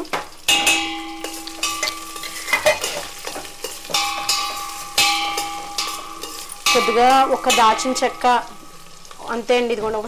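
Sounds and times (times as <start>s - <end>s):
vegetables sizzling in ghee: 0.0s - 10.0s
metal spatula knocking pot: 0.5s - 9.2s
pot ringing: 0.5s - 9.5s.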